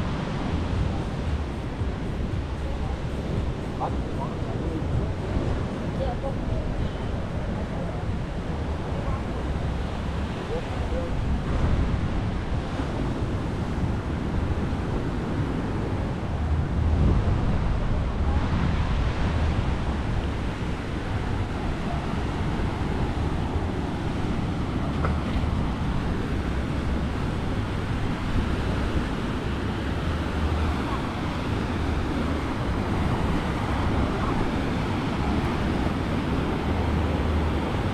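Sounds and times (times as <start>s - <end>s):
sea surf washing onto beach: 0.0s - 37.9s
wind buffeting microphone: 0.0s - 37.9s.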